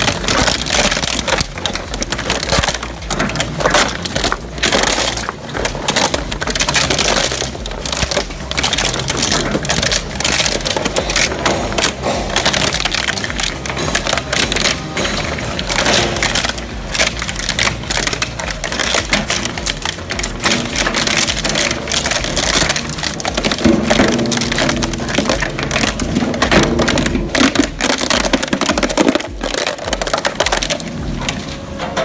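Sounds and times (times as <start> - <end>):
machine drone: 0.0 - 32.0
shredder crunching material: 0.0 - 32.0.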